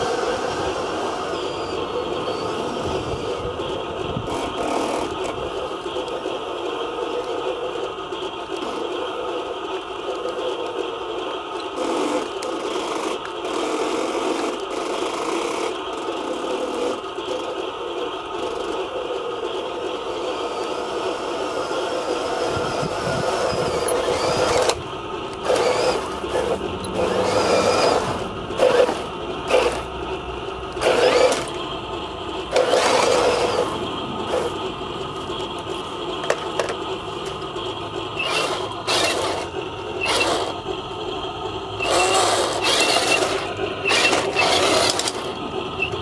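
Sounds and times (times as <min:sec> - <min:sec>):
small electric motors whining: 0:00.0 - 0:46.0
steady hum: 0:00.0 - 0:46.0.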